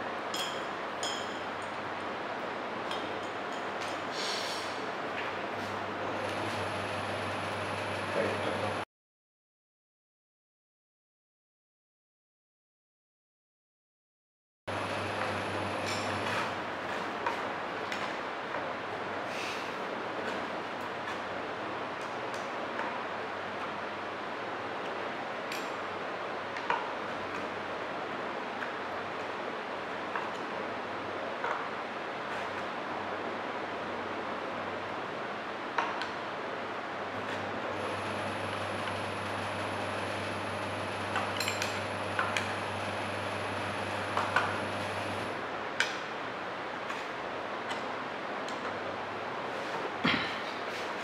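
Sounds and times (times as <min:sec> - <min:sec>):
low hum and hiss: 0:00.0 - 0:08.8, 0:14.7 - 0:51.0.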